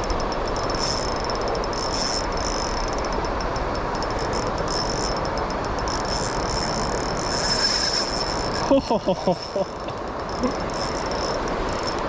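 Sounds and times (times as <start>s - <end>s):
high pulsing chirr: 0.0s - 12.0s
stream water flowing: 0.0s - 12.0s.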